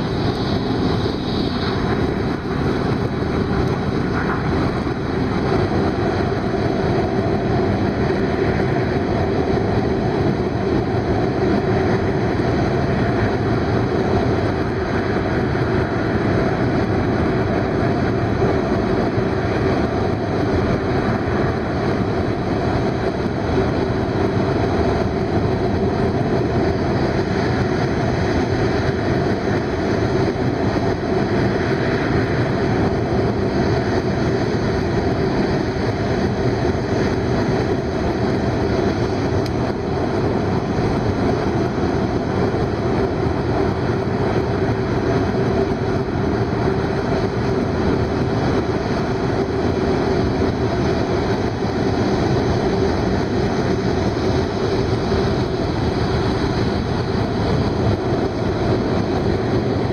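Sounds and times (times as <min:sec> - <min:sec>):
high-speed train rumble and rush: 0:00.0 - 0:59.9
steady low hum: 0:00.0 - 0:59.9.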